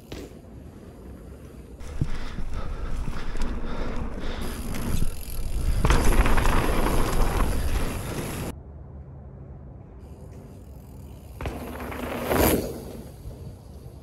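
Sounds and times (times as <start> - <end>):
bike tyres rumbling on dirt: 0.0 - 8.5, 10.7 - 14.0.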